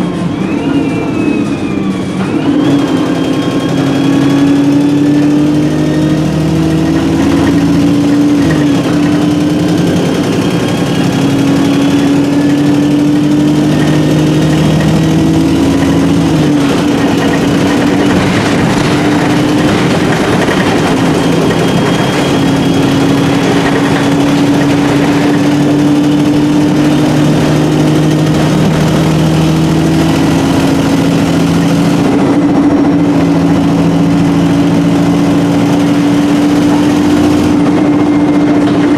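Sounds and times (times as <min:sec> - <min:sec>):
bus engine drone: 0:00.0 - 0:38.9
gearbox whine: 0:00.0 - 0:38.9.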